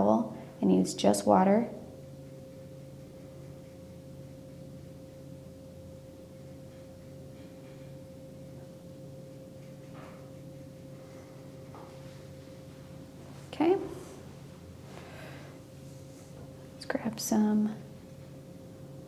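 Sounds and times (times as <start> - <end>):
low electrical hum: 0.0 - 19.0
steady pure tone: 0.0 - 19.0.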